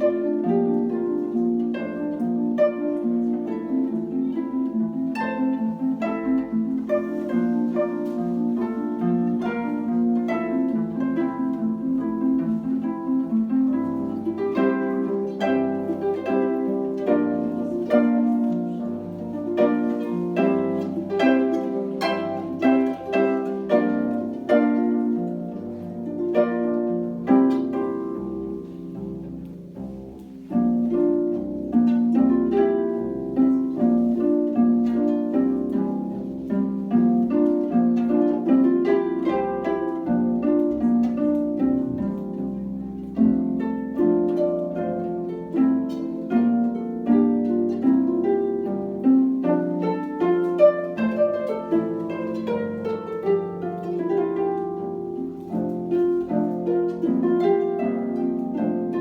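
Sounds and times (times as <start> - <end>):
harps playing: 0.0 - 59.0.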